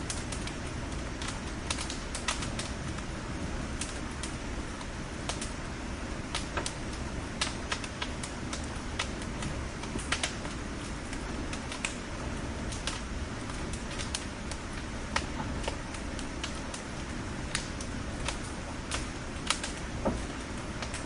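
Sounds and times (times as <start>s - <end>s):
flames hissing and rumbling: 0.0s - 21.0s
logs crackling and popping: 0.0s - 21.0s.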